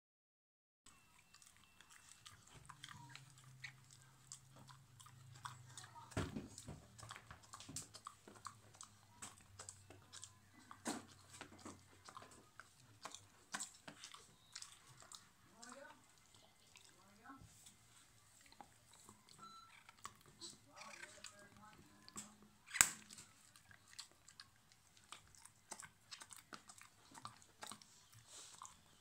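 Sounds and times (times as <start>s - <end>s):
dog gnawing and crunching a chew: 0.9s - 29.0s.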